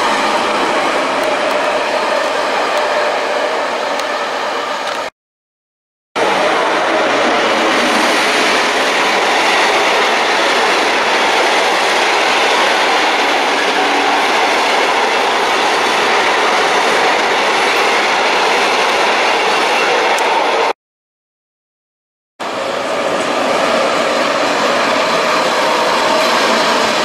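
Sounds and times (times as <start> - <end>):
train rushing past: 0.0 - 5.1, 6.2 - 20.8, 22.4 - 27.0.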